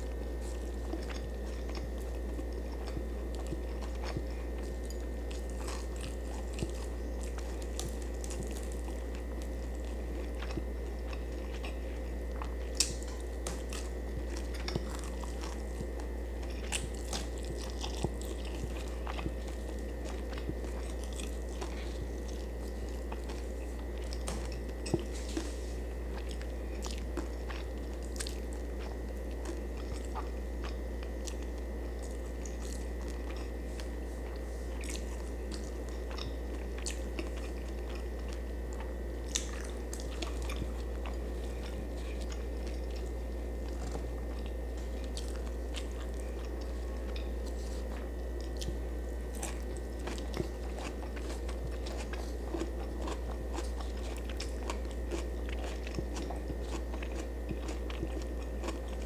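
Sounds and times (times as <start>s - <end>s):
person chewing crunchy food: 0.0s - 59.0s
steady low hum: 0.0s - 59.0s.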